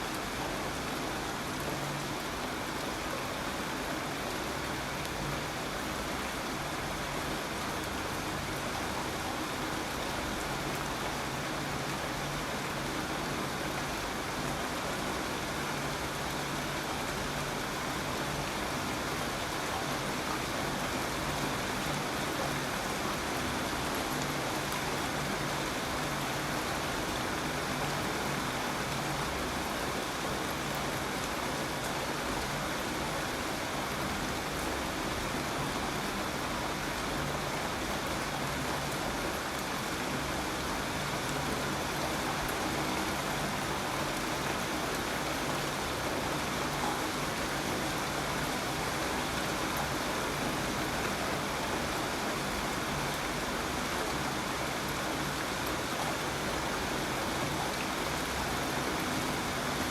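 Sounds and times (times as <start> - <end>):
dense rain hiss: 0.0 - 59.9.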